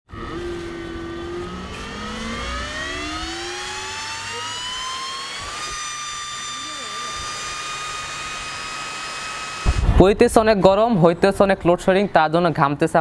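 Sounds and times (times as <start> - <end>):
fan whine rising in pitch: 0.1 - 12.1.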